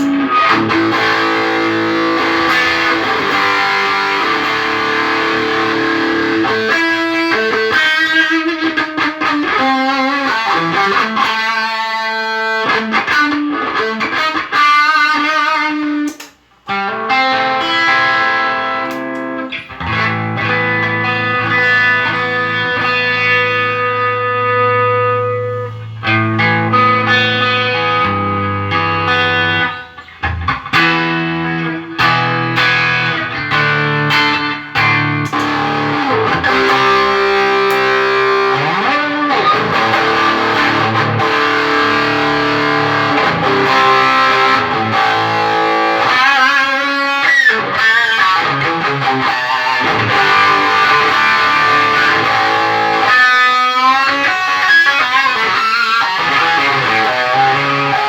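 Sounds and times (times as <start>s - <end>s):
electric guitar: 0.0s - 58.0s.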